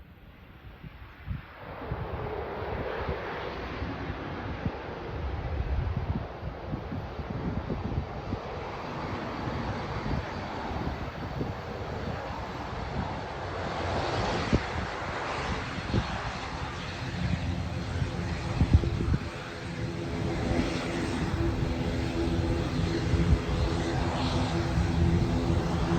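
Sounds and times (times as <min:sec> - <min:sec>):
turboprop engines and propellers running: 0:00.1 - 0:25.9.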